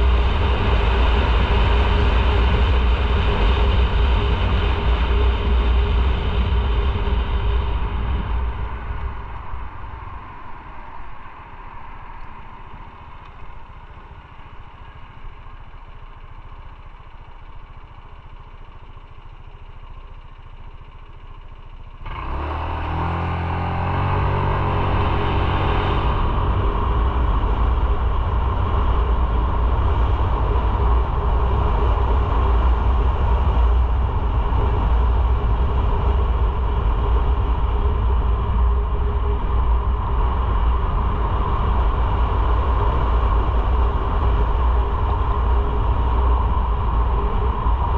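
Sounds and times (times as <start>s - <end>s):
motorcycle engine: 0.0s - 47.9s
road noise: 0.0s - 47.9s.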